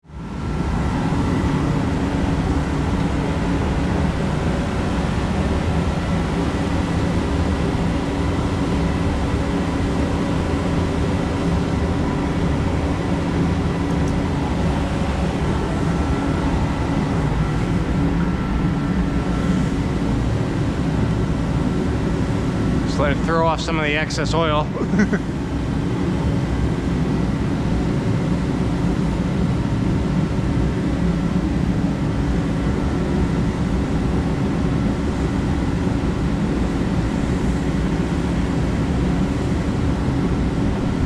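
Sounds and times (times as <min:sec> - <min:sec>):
ceiling fan whirring: 0:00.0 - 0:41.0.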